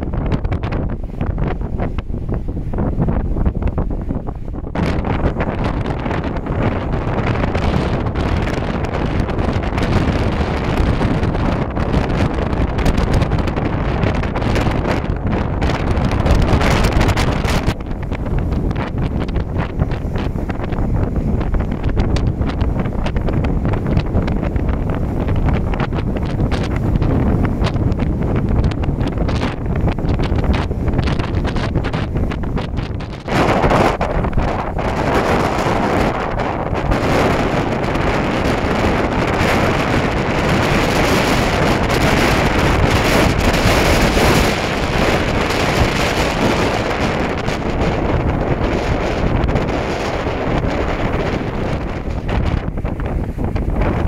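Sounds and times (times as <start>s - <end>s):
strong wind buffeting microphone: 0.0s - 54.0s.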